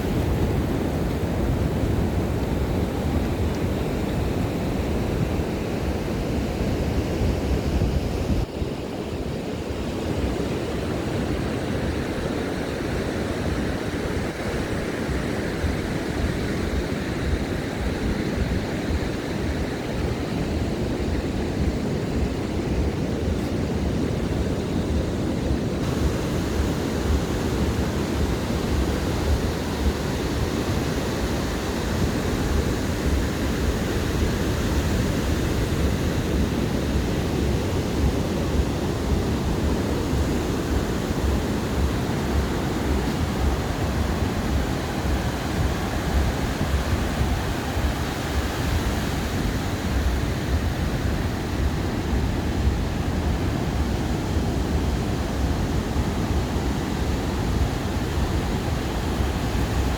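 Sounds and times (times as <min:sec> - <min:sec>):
ocean surf on beach: 0:00.0 - 0:59.9
wind rumble on microphone: 0:00.0 - 0:59.9.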